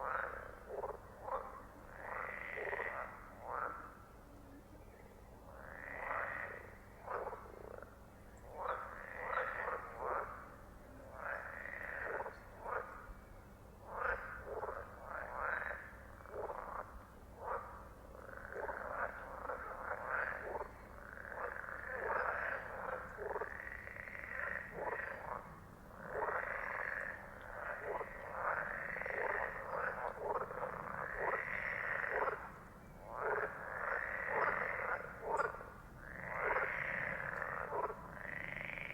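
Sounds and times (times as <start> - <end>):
frogs croaking: 0.0 - 4.2, 4.9 - 38.9.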